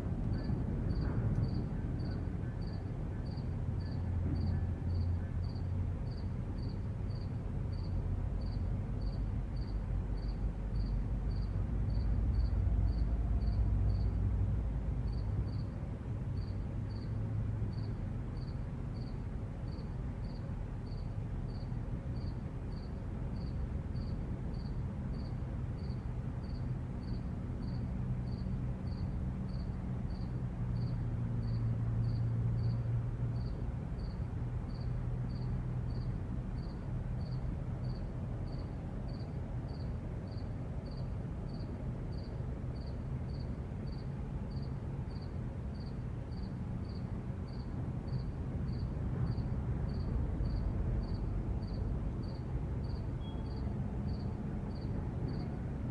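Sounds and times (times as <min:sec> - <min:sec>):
distant traffic rumble: 0:00.0 - 0:55.9
cricket chirping: 0:00.3 - 0:14.2, 0:15.1 - 0:15.7, 0:16.4 - 0:55.5.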